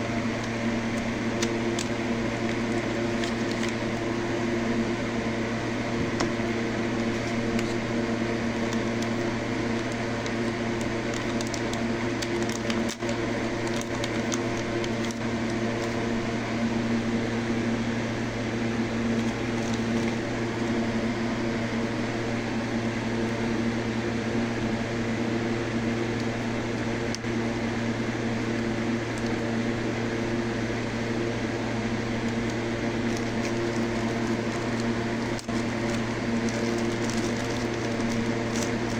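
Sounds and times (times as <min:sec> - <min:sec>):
mechanical hum with electrical buzz: 0:00.0 - 0:38.9.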